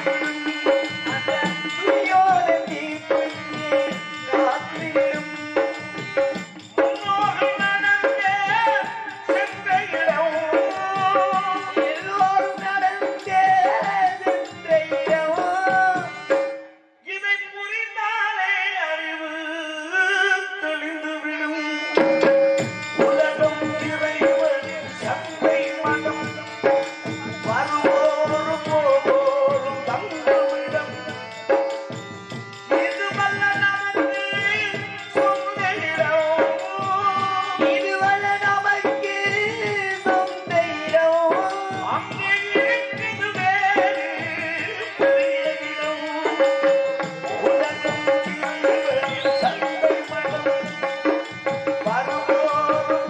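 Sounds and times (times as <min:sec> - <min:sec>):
tabla drumming: 0:00.0 - 0:16.8, 0:21.4 - 0:53.0
man singing into a microphone: 0:00.0 - 0:53.0.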